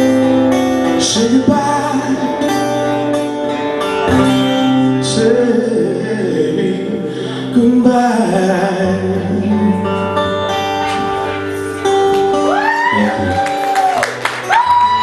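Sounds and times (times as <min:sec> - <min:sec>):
guitar: 0:00.0 - 0:15.0.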